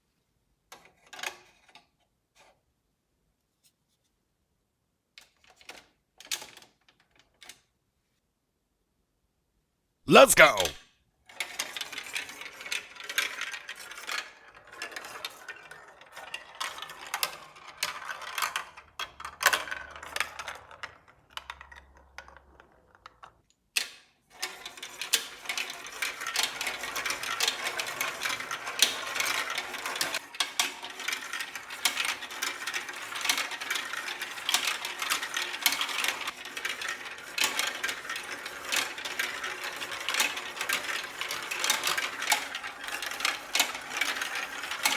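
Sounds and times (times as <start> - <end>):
plastic balls clattering down track: 5.2 - 7.6, 11.3 - 44.9.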